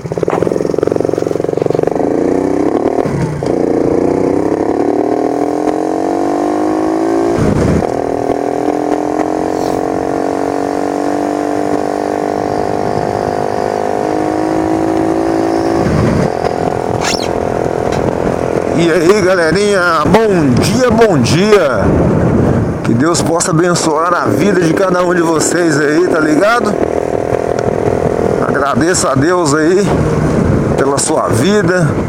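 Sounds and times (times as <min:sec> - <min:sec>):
motorcycle engine accelerating: 0:00.0 - 0:22.8, 0:23.8 - 0:32.0.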